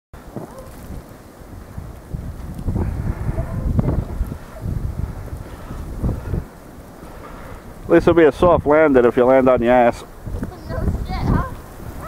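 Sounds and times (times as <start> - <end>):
wind buffeting microphone: 0.2 - 12.0.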